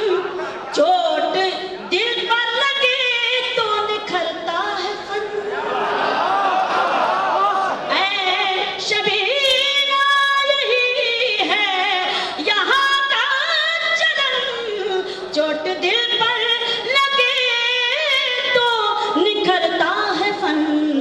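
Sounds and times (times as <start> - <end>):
woman singing poetry into microphone: 0.0 - 5.5, 7.9 - 21.0.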